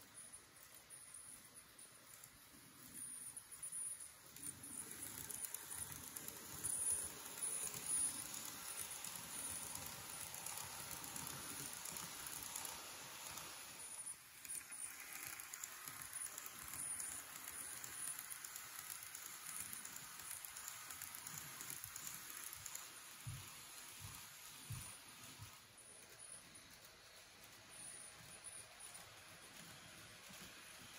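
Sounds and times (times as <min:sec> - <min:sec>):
faint motor whir: 0:00.0 - 0:30.9
small wheels rattling on track: 0:00.1 - 0:30.9.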